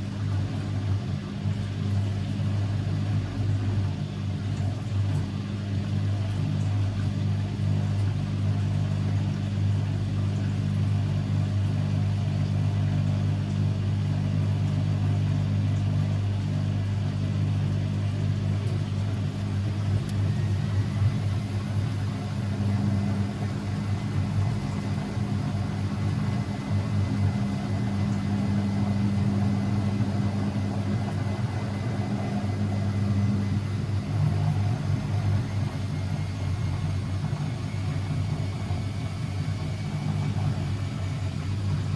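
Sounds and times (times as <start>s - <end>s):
washing machine motor hum: 0.0s - 41.9s.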